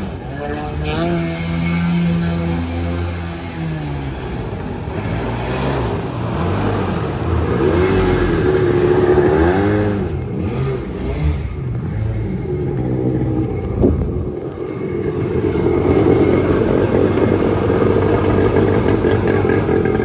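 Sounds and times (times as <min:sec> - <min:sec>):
jet boat engine revving: 0:00.0 - 0:20.0.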